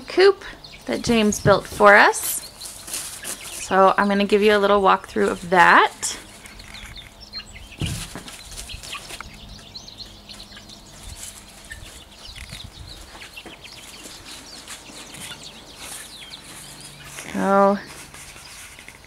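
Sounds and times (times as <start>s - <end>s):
hens clucking and peeping: 0.0s - 19.0s.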